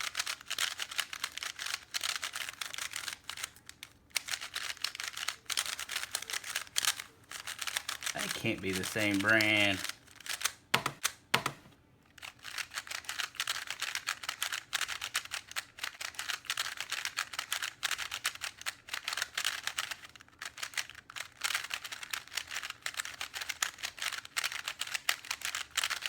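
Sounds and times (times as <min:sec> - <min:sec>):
puzzle cube plastic clicks: 0:00.0 - 0:26.0.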